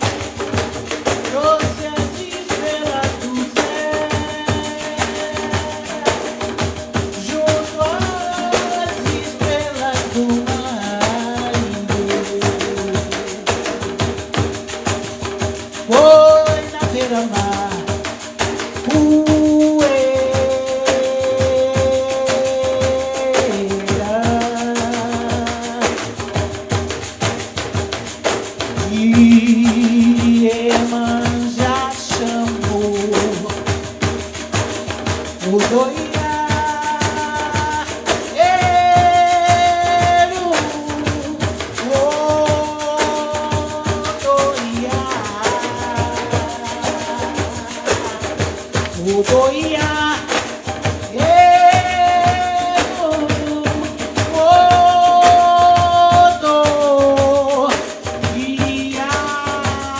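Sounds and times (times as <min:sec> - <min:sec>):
pandeiros playing rhythm: 0:00.0 - 0:59.9.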